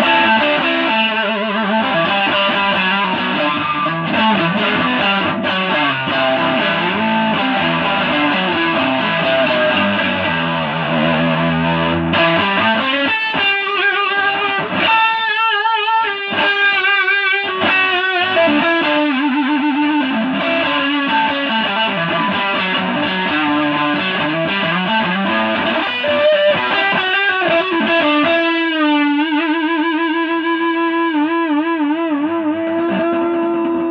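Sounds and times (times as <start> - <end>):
distorted electric guitar: 0.0 - 33.9.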